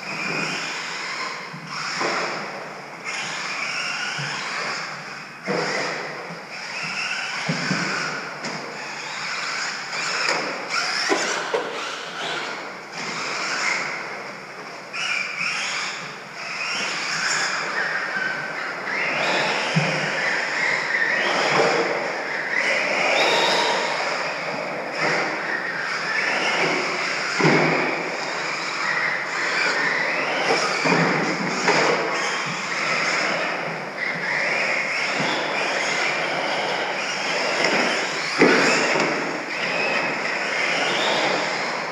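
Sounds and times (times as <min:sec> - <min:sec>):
toy truck motors whining: 0:00.0 - 0:41.9.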